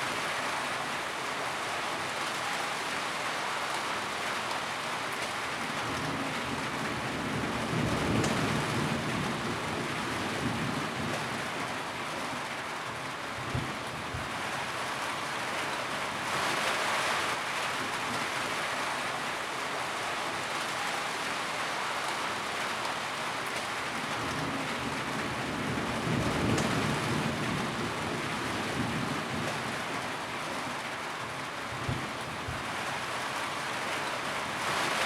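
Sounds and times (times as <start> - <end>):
rain on a tin roof: 0.0 - 35.0.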